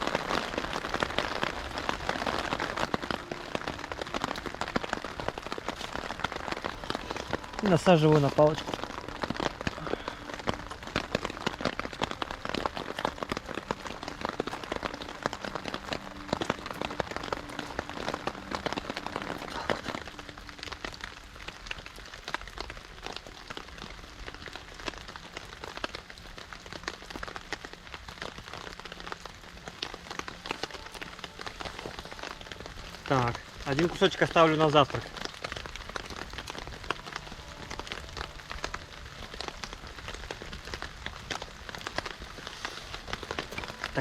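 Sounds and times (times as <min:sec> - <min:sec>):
rain pattering on a tarp: 0:00.0 - 0:44.0.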